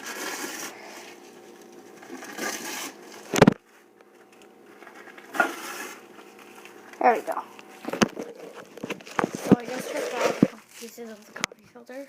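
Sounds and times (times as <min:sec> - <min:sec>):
paper filter tearing and crinkling: 0:00.0 - 0:03.6, 0:04.2 - 0:11.5.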